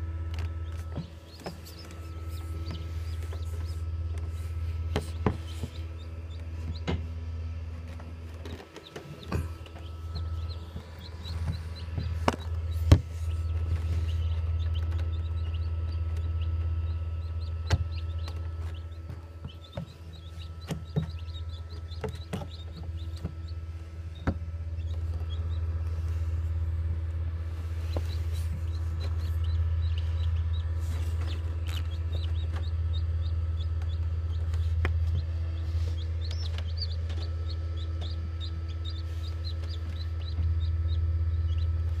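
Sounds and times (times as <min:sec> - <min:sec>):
incubator hum: 0:00.0 - 0:42.0
chick peeping: 0:00.3 - 0:07.2, 0:07.9 - 0:26.3, 0:27.6 - 0:42.0.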